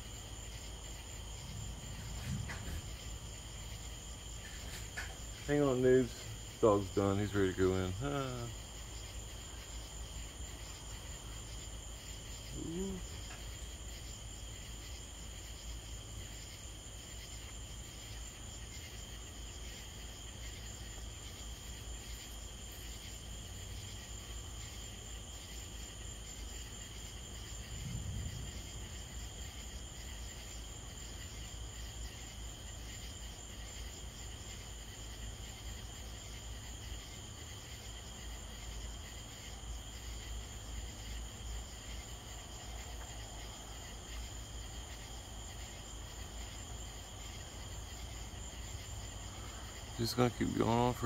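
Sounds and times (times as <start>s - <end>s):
crickets and insects trilling: 0.0s - 51.0s.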